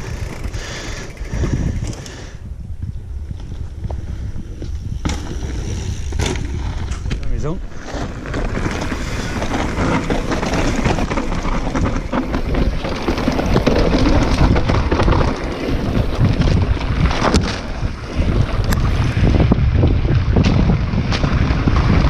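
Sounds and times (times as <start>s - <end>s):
bike rattling and clattering: 0.0s - 2.3s, 3.2s - 22.0s
wind buffeting microphone: 0.0s - 22.0s
tyre rumble on dirt: 3.3s - 22.0s.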